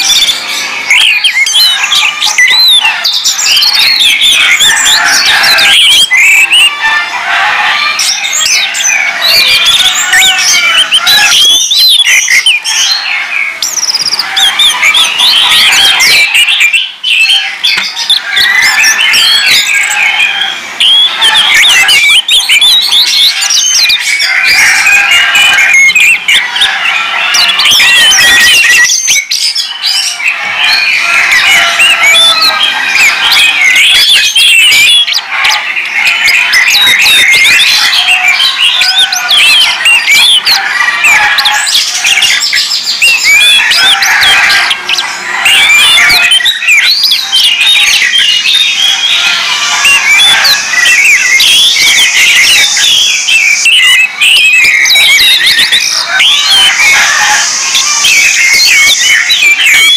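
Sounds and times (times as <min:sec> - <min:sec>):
thrushes singing: 0:00.0 - 0:59.9.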